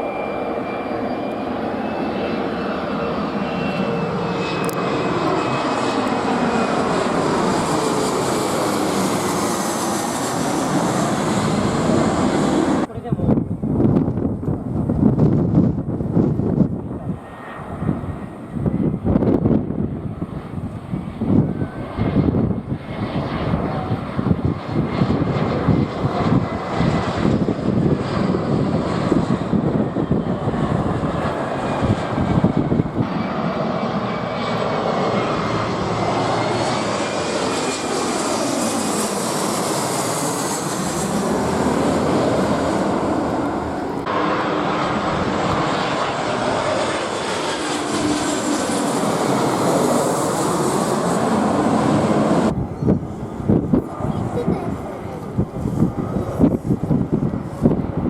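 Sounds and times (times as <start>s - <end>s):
airliner engines roaring: 0.0s - 58.0s.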